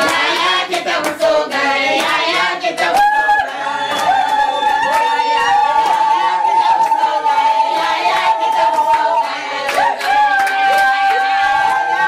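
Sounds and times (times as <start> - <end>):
group singing unaccompanied: 0.0 - 12.0
hand claps: 0.0 - 12.0.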